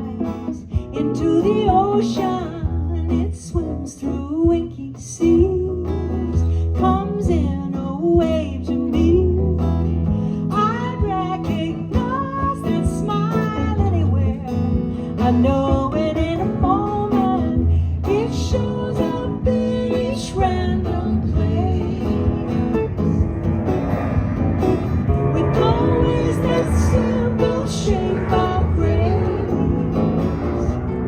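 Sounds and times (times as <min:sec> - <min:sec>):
person singing: 0:00.0 - 0:09.7, 0:10.5 - 0:23.5, 0:25.1 - 0:31.0
acoustic guitar: 0:00.0 - 0:31.0
bass line: 0:00.0 - 0:31.0.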